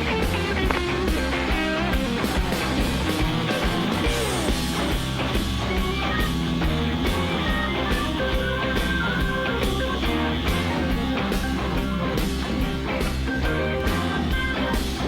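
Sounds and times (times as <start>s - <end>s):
drums at a steady beat: 0.0s - 15.0s
electric guitar: 0.0s - 15.0s.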